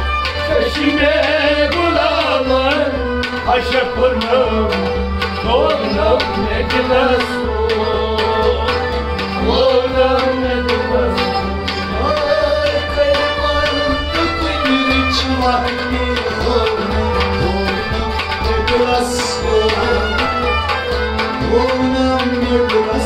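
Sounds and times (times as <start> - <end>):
bowed sarangi melody: 0.0 - 23.0
hand drum rhythm: 0.0 - 23.0
harmonium: 0.0 - 23.0.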